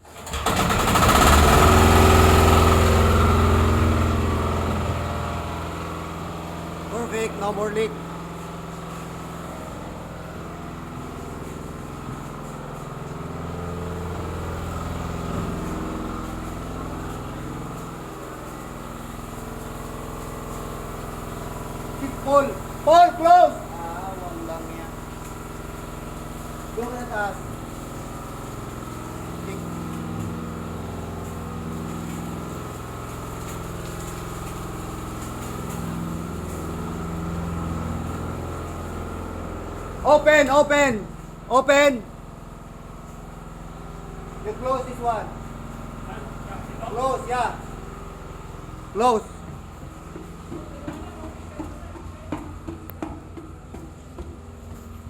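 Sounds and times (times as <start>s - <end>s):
fire pump droning: 0.0s - 55.0s.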